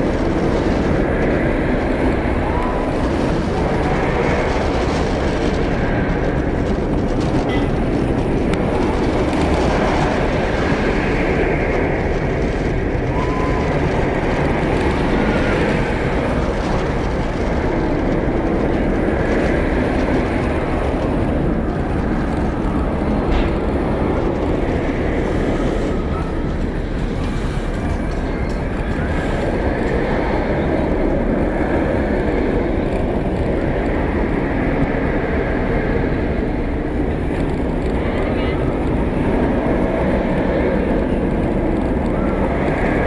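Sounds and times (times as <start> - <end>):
vehicle rumbling in motion: 0.0 - 43.0.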